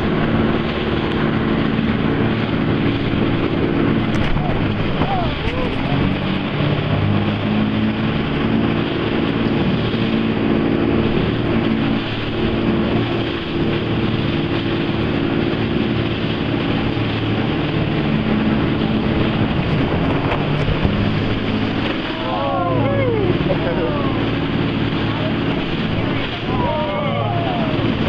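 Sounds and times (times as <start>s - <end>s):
boat engine drone: 0.0s - 28.0s
churning whitewater rushing: 0.0s - 28.0s.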